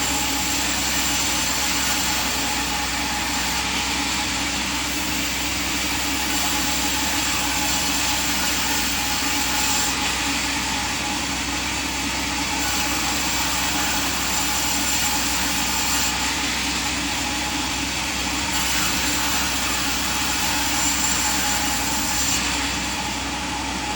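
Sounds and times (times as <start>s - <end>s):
sawmill machinery hum: 0.0s - 23.9s
steady mechanical whine: 0.0s - 23.9s.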